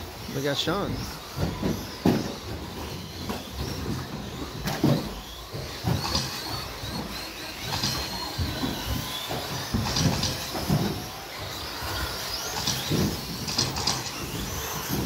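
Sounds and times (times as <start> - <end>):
electric motors whining: 0.0 - 15.0
tyres rumbling: 0.0 - 15.0.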